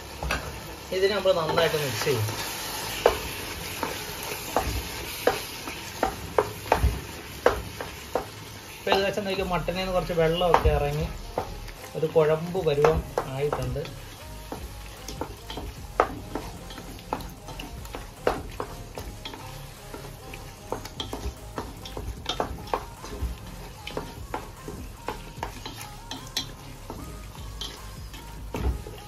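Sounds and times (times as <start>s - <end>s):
sizzling pan: 0.0s - 29.0s.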